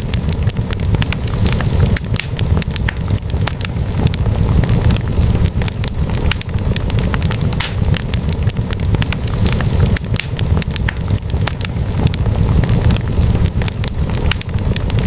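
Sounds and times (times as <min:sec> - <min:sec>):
log fire crackling and popping: 0:00.0 - 0:15.0
low rumble of flames: 0:00.0 - 0:15.0.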